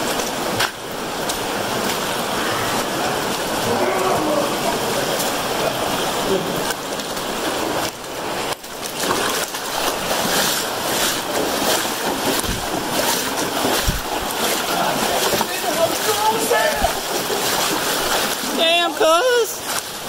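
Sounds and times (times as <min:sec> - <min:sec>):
river water splashing around legs: 0:00.0 - 0:20.0.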